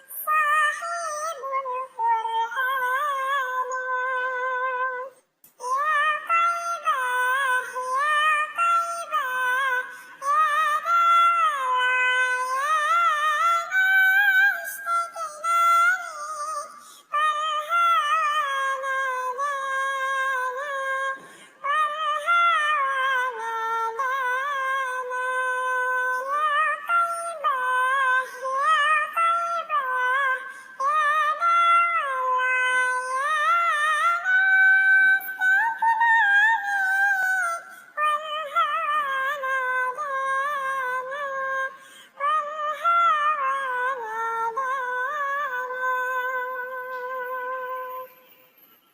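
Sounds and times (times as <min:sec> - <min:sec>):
high-pitched voice singing: 0:00.0 - 0:48.4.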